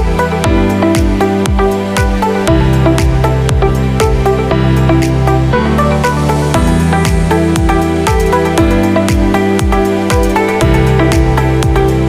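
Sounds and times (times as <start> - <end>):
held synth chords: 0.0 - 12.0
steady kick drum beat: 0.0 - 12.0.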